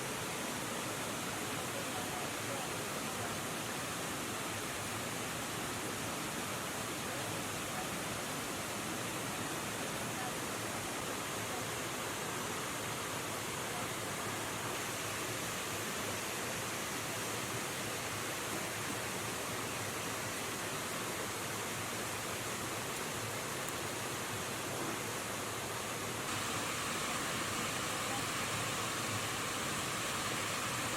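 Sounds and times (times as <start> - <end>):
water rushing over rocks: 0.0 - 30.9.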